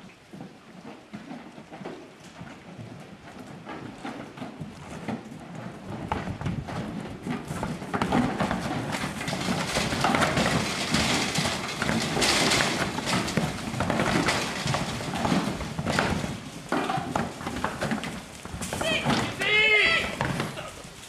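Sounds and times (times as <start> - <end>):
cattle hooves on trailer ramp: 0.0 - 21.0.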